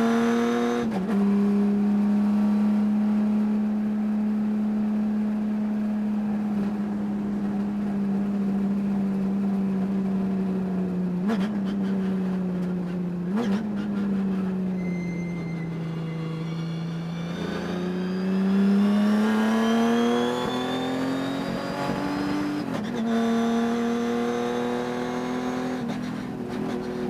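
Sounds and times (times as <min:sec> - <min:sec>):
race car engine at high revs: 0:00.0 - 0:14.6, 0:15.6 - 0:27.0.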